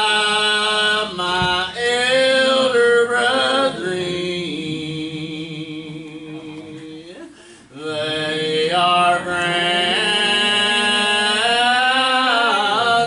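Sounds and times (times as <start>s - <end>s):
voices singing a hymn: 0.0s - 13.0s.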